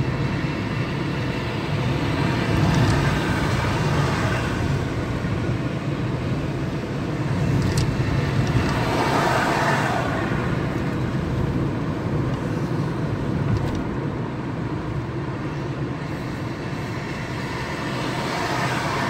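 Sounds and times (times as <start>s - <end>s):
car cabin road and engine noise: 0.0s - 19.0s.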